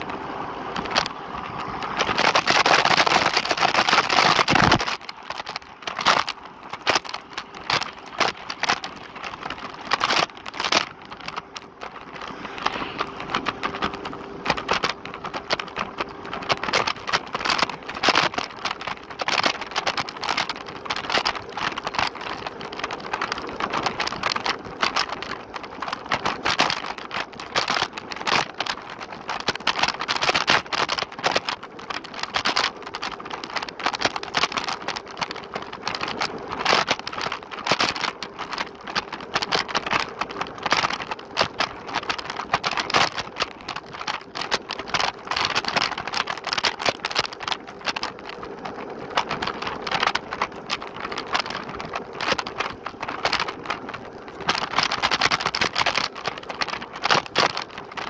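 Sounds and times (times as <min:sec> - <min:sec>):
electric scooter rattling: 0:00.0 - 0:58.0.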